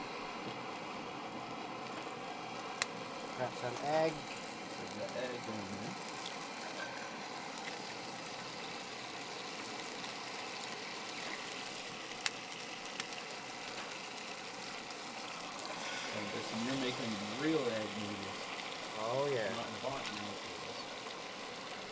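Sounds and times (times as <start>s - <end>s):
camp stove burner rushing: 0.0s - 21.9s
egg sizzling in oil: 0.0s - 21.9s.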